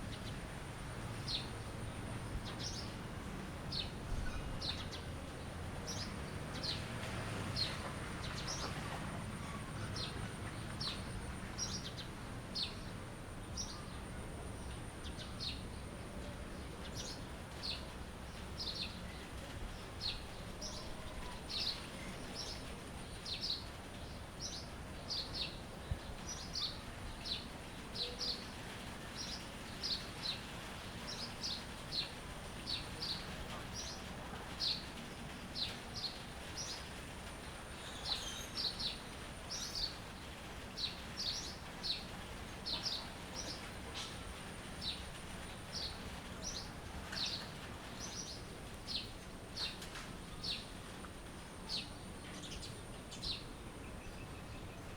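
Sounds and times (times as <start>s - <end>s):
low background hiss: 0.0s - 54.9s.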